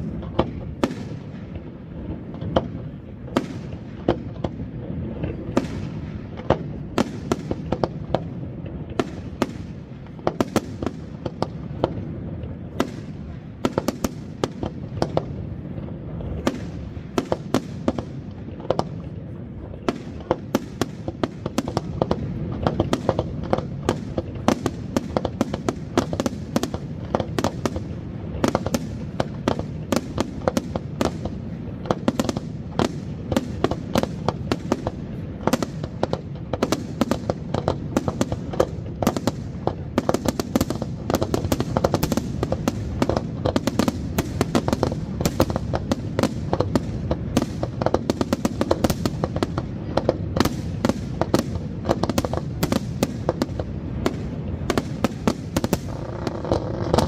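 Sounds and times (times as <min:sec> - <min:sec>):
continuous low rumble: 0:00.0 - 0:57.0
firework shells bursting: 0:00.0 - 0:57.0.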